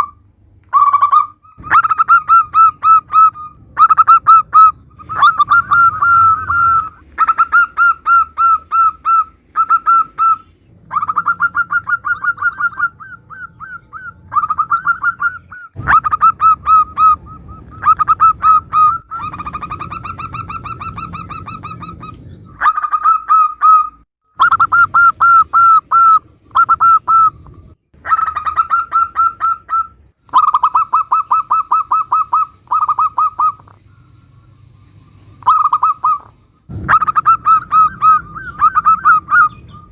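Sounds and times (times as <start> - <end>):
doves cooing: 0.0 - 39.9
low background hum: 0.0 - 39.9.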